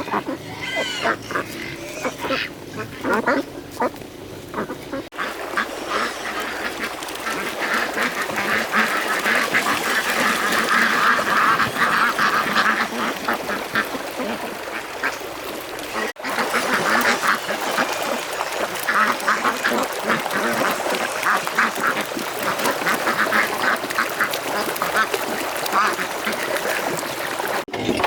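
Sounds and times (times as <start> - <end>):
ducks quacking: 0.0 - 27.6.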